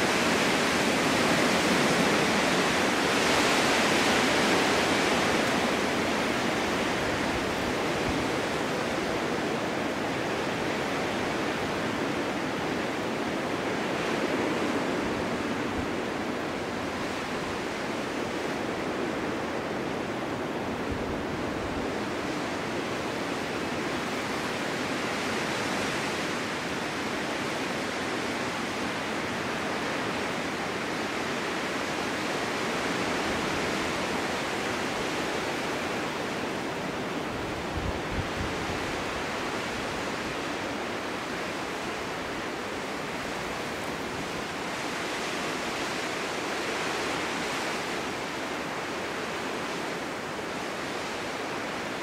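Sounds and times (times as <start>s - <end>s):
snowstorm wind rushing: 0.0s - 52.0s.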